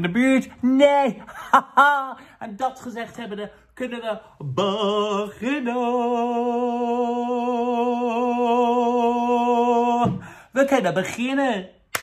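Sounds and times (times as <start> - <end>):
man singing with vibrato: 0.0 - 11.6.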